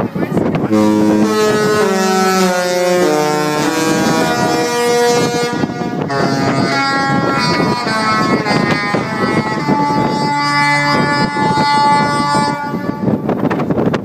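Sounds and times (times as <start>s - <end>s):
wind buffeting microphone: 0.0s - 14.0s
ship's musical horn: 0.6s - 14.0s.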